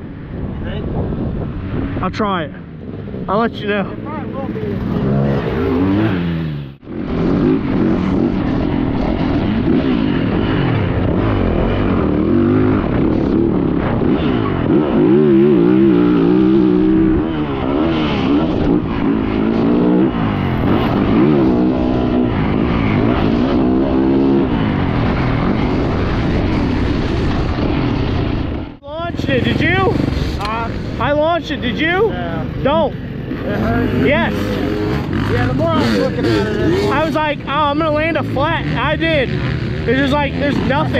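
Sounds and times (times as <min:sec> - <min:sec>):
motocross bike engine revving: 0:02.7 - 0:40.9.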